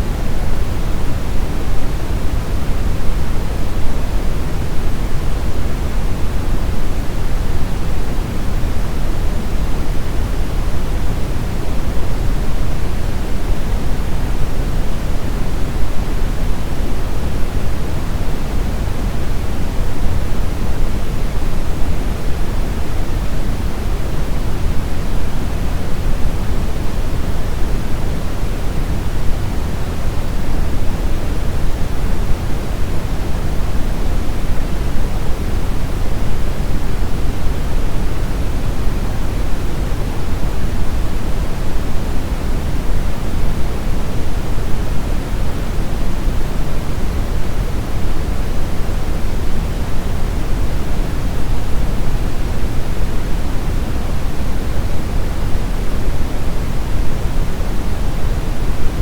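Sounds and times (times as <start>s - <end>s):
low rumbling brown noise: 0.0s - 59.0s.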